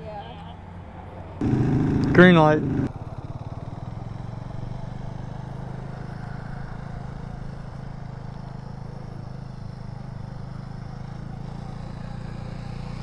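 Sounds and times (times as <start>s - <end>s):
motorcycle engine running: 1.4s - 13.0s.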